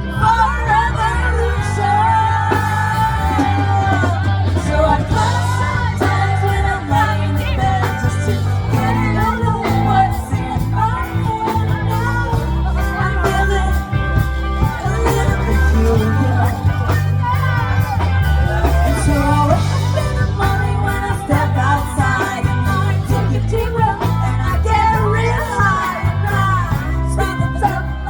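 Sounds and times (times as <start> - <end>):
bass line: 0.0 - 28.0
guitar: 0.0 - 28.0
person singing: 0.0 - 28.0
steady drum beat: 1.0 - 28.0.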